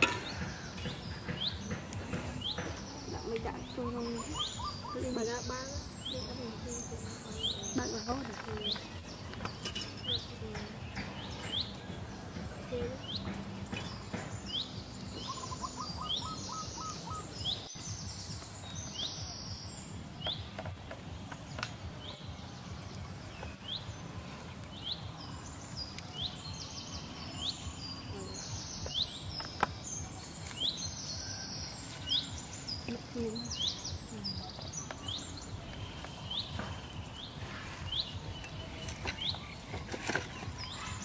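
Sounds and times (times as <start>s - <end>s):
birds singing: 0.0s - 41.0s.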